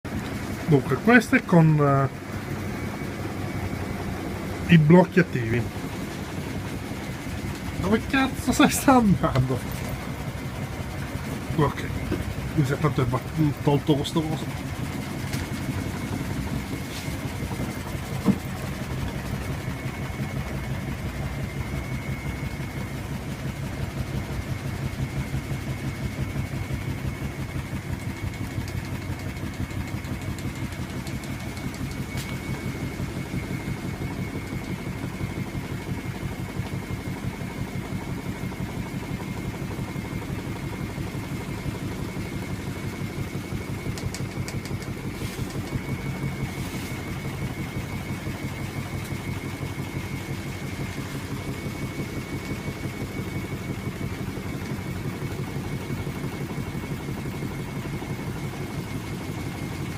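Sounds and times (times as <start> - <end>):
washing machine spinning: 0.0 - 59.9
faint steady whine: 0.1 - 59.9.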